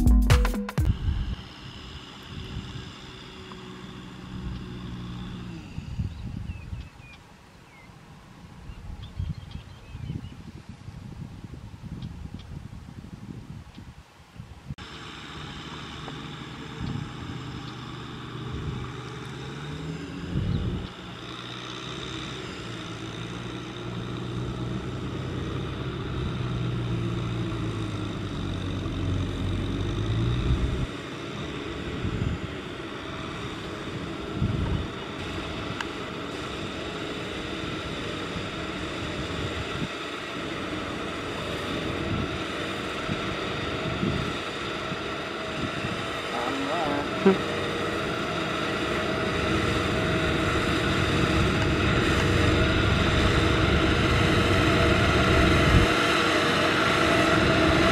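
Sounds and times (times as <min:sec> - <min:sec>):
combine harvester engine drone: 0:00.0 - 0:10.3, 0:14.8 - 0:57.9
tractor diesel engine under load: 0:00.8 - 0:08.7, 0:14.7 - 0:57.9.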